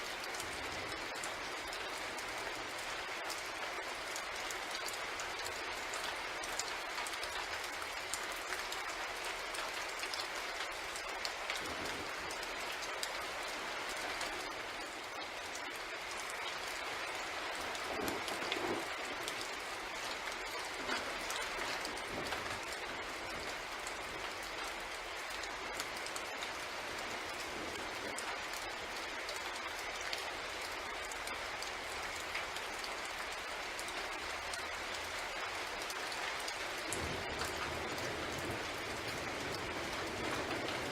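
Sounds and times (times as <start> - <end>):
rain hiss: 0.0 - 40.9
raindrops ticking: 0.0 - 40.9.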